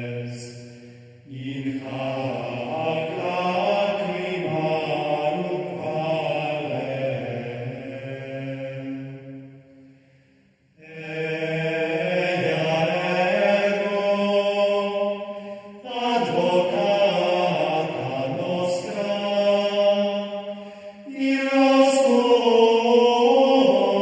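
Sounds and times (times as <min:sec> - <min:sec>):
slow vocal chant: 0:00.0 - 0:24.0.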